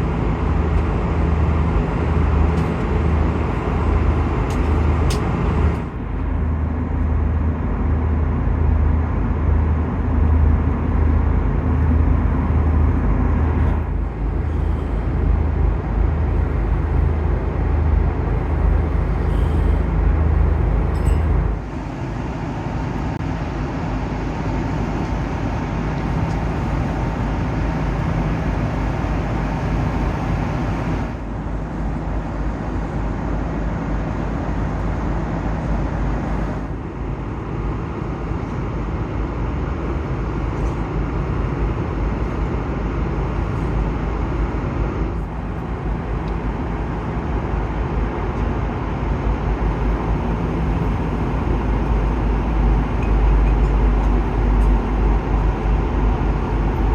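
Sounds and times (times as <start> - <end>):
vehicle in motion rumble: 0.0 - 56.9.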